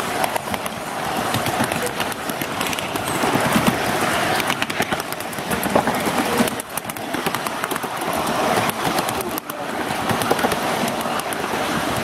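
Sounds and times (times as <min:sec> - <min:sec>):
railway cars rolling rumble: 0:00.0 - 0:12.0
wheels clattering on rails: 0:00.0 - 0:12.0.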